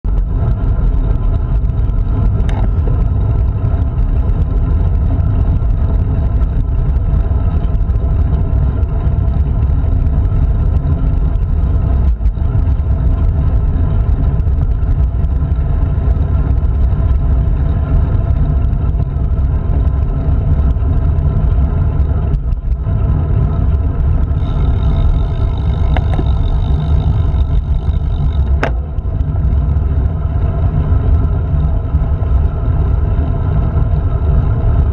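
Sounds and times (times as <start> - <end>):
tyre noise on asphalt: 0.0 - 34.9
wind buffeting microphone: 0.0 - 34.9.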